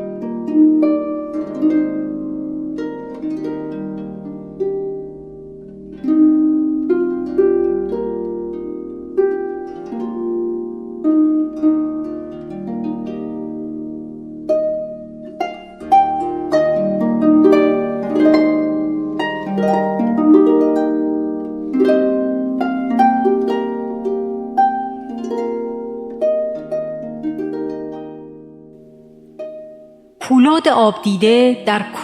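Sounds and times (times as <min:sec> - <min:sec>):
harp melody: 0:00.0 - 0:30.2.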